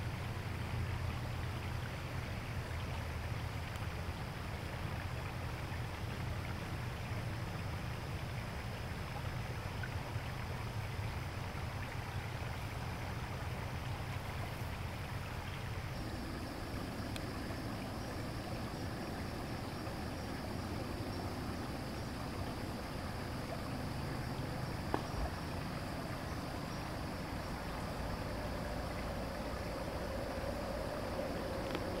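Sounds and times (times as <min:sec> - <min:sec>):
water rushing at dam: 0:00.0 - 0:32.0.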